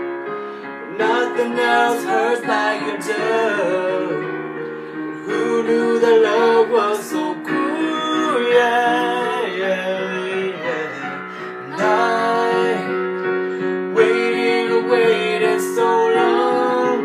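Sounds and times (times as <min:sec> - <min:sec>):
digital piano accompaniment: 0:00.0 - 0:17.0
man and woman singing duet: 0:00.8 - 0:04.3, 0:05.2 - 0:17.0.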